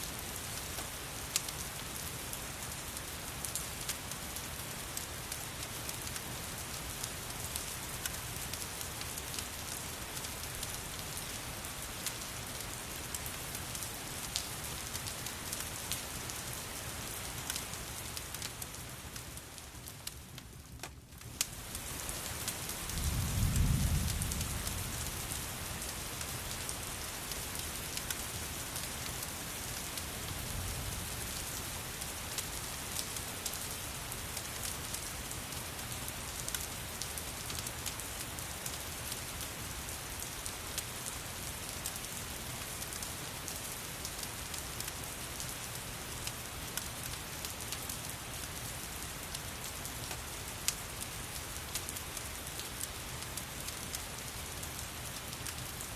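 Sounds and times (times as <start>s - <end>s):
steady rain patter: 0.0s - 55.9s.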